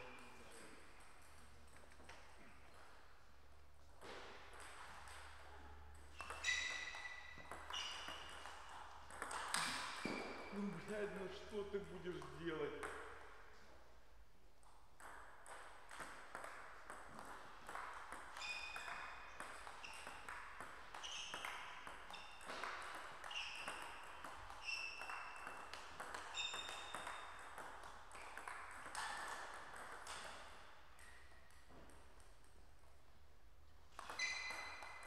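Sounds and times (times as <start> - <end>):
ball bouncing with high ping: 3.8 - 13.4, 14.6 - 32.9, 33.9 - 35.0.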